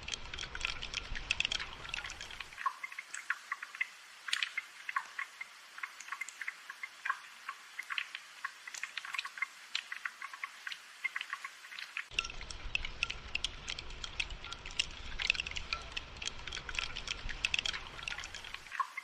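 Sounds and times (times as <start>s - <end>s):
raindrops dripping and tapping: 0.0s - 19.0s.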